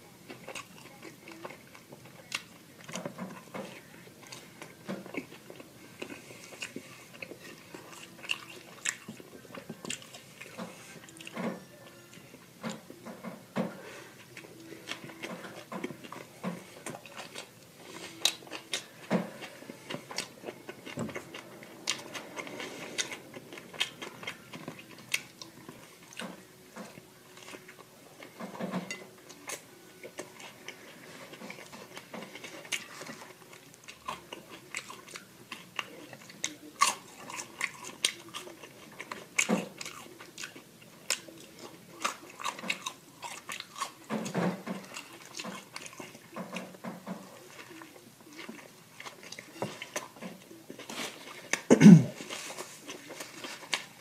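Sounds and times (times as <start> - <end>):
crunchy chewing: 0.3 - 13.0, 13.8 - 54.0.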